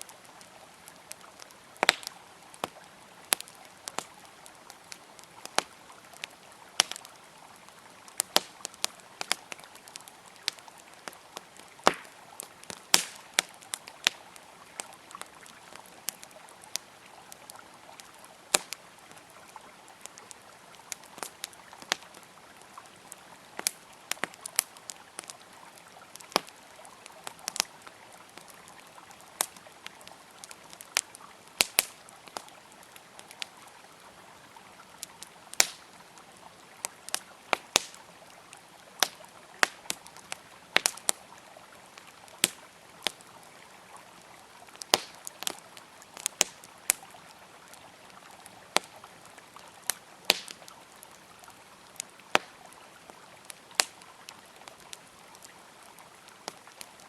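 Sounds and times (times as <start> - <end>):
campfire crackling and popping: 0.0 - 57.0
flowing river: 0.0 - 57.0.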